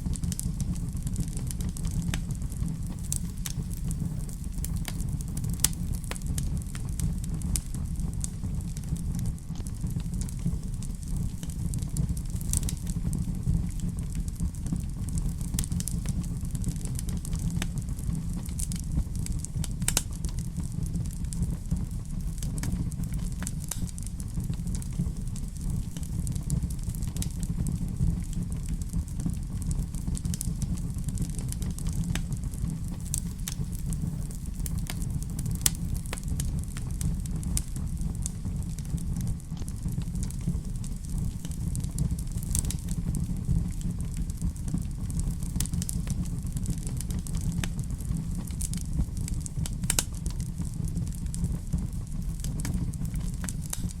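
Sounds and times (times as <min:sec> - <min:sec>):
wood fire burning: 0:00.0 - 0:54.0.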